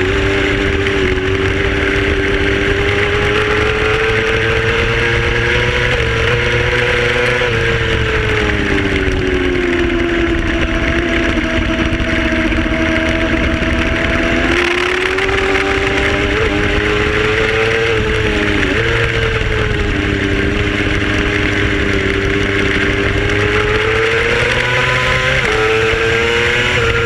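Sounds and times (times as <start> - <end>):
racing motorcycle engine revving: 0.0 - 27.0
wind noise: 0.0 - 27.0.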